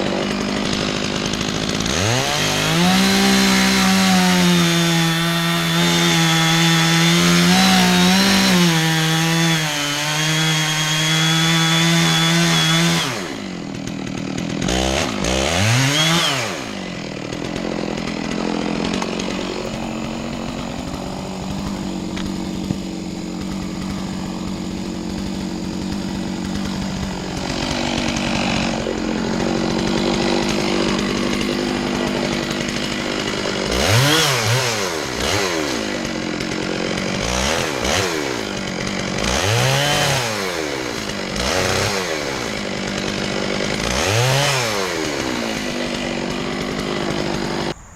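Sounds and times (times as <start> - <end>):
chainsaw cutting wood: 0.0 - 47.9
chainsaw idling: 0.0 - 47.9.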